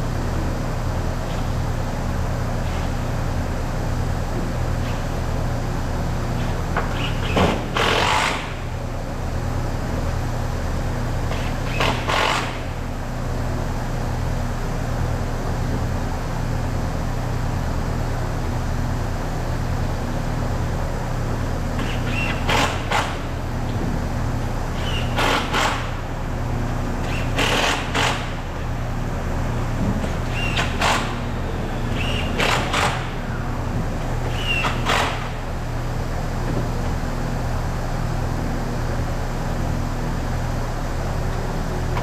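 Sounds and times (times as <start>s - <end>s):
workshop machinery humming: 0.0s - 42.0s.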